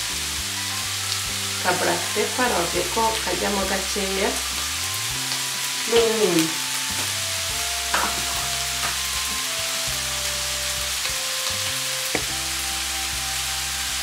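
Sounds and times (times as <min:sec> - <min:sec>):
background music of held notes: 0:00.0 - 0:14.0
vegetables sizzling in a pan: 0:00.0 - 0:14.0.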